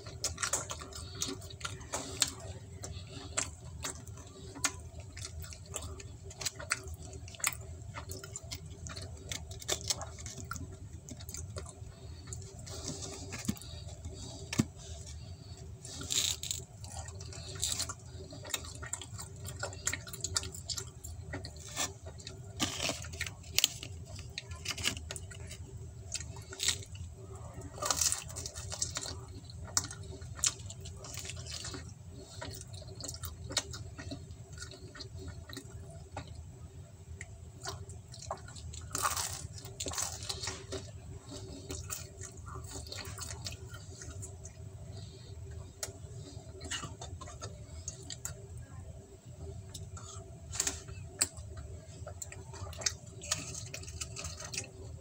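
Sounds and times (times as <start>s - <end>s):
wet chewing and smacking: 0.0s - 48.6s, 49.5s - 55.0s
steady low hum: 0.0s - 55.0s.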